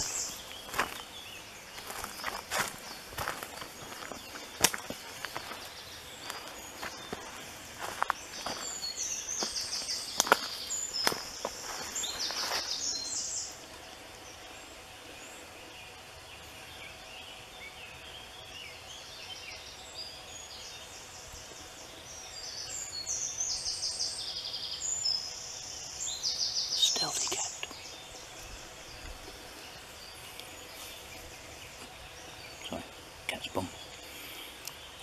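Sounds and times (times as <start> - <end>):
songbirds trilling: 0.0 - 35.0.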